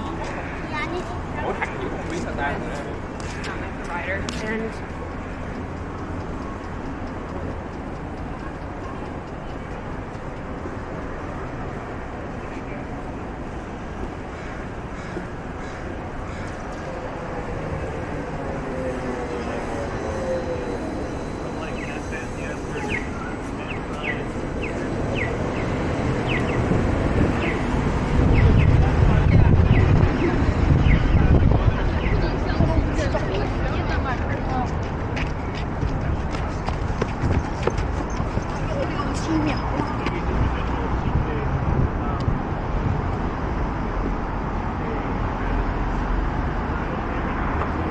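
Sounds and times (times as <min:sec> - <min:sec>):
street traffic rumble: 0:00.0 - 0:47.9.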